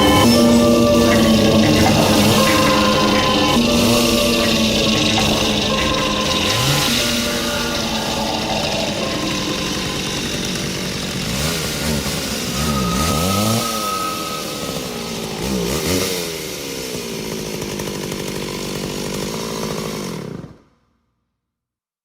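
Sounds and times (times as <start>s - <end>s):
chainsaw revving: 0.0s - 20.7s.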